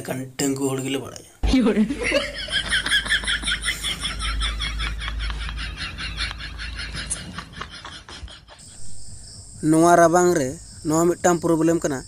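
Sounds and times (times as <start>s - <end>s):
crickets chirping: 0.5s - 12.0s.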